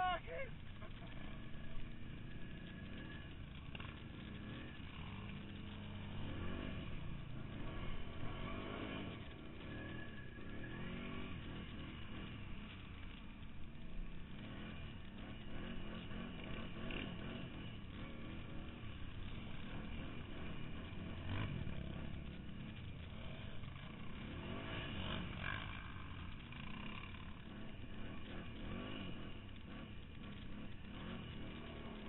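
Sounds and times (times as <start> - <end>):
quad bike engine revving: 0.0 - 32.0.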